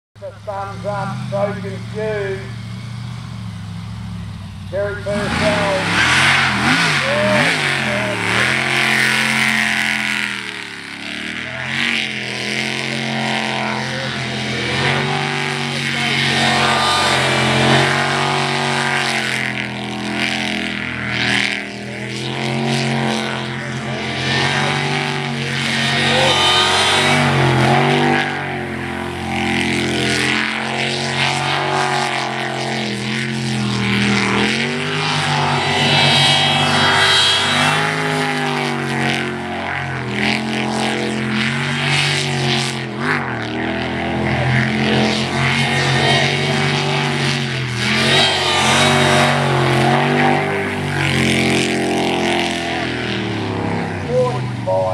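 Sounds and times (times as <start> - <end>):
boat engine revving: 0.2 - 54.9.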